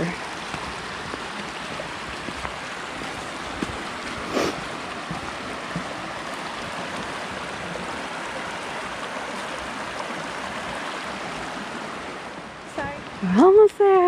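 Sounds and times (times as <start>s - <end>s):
river water rushing over rocks: 0.0s - 13.2s.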